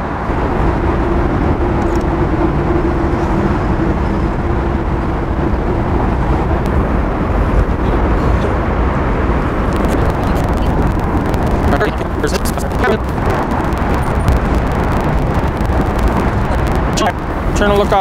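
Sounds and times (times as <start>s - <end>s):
road traffic rumble: 0.0s - 18.0s
steady hum: 0.0s - 18.0s.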